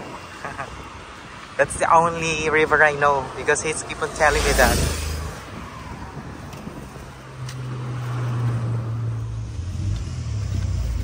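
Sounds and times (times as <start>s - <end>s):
car engine hum: 0.0s - 11.0s
road traffic noise: 0.0s - 11.0s.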